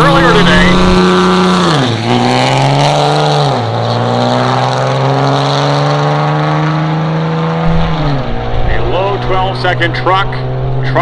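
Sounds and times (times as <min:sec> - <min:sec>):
diesel truck engine at full throttle: 0:00.0 - 0:11.0.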